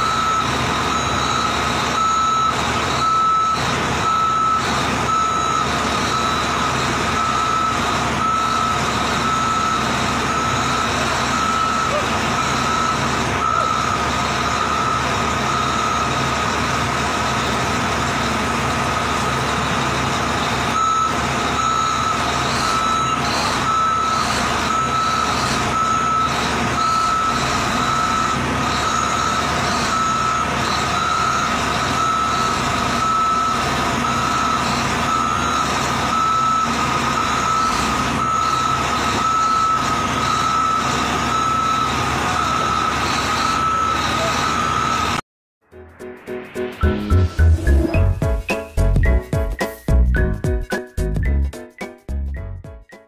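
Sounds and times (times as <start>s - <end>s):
engine running: 0.0s - 45.2s
reversing alarm beeping: 0.0s - 45.2s, 46.8s - 48.2s.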